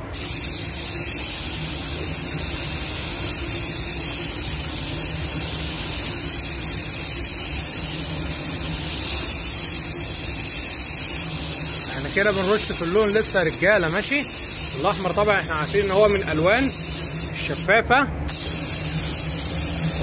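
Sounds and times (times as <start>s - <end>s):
paint spray gun hissing: 0.0s - 17.7s, 18.3s - 20.0s.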